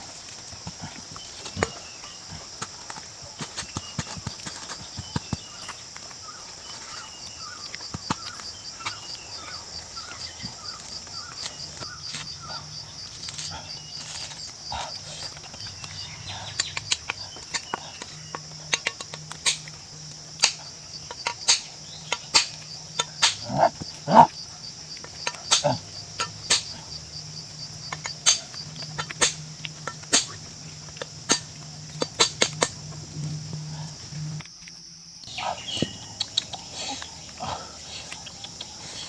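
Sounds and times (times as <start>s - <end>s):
high-pitched insect drone: 0.0s - 39.0s.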